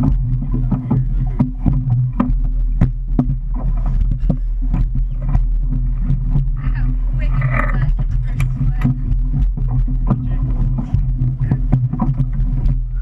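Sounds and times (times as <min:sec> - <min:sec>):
knocks and splashes: 0:00.0 - 0:13.0
motorboat engine idling: 0:00.0 - 0:13.0.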